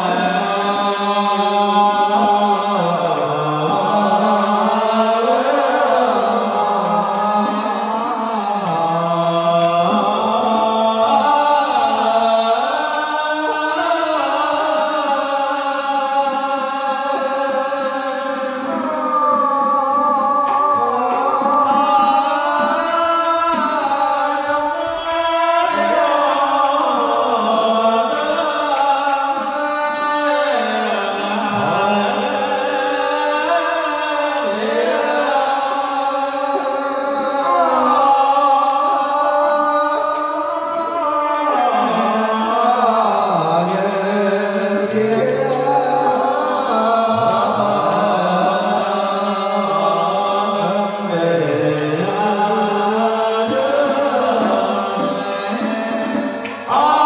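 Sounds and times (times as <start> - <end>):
slow chanted hymn: 0.0 - 57.0.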